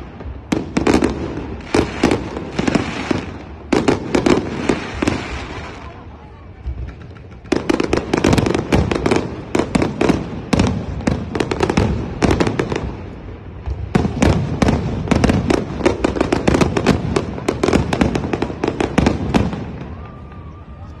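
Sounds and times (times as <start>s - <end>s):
fireworks crackling pops: 0.0s - 21.0s.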